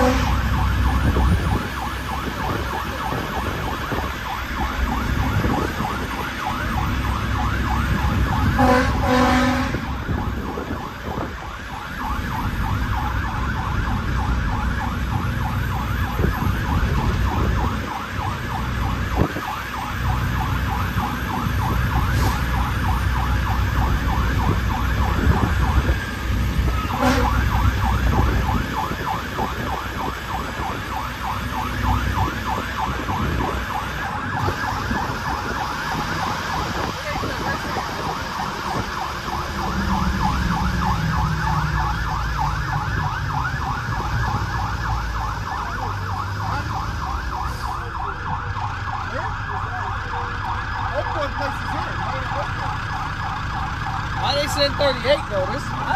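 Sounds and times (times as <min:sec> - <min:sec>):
diesel truck engine rumble: 0:00.0 - 0:55.9
fire truck siren yelping: 0:00.0 - 0:55.9.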